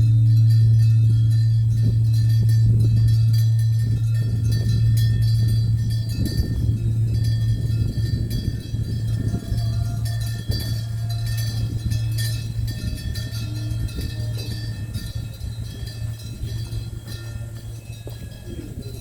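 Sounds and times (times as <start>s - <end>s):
metallic ringing: 0.0s - 19.0s
steady low drone: 0.0s - 19.0s.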